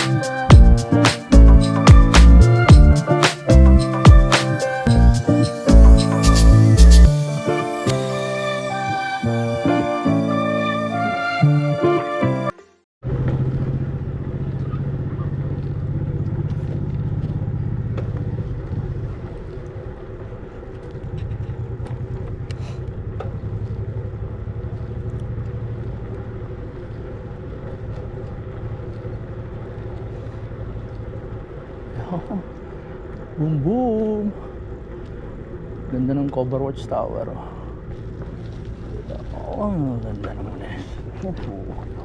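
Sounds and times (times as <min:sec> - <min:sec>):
road traffic rumble: 0:00.0 - 0:42.0.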